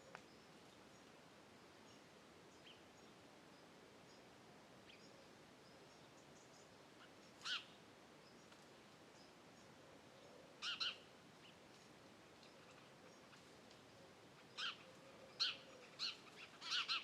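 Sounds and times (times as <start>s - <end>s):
faint bird chirps: 1.8s - 11.6s, 12.4s - 17.0s.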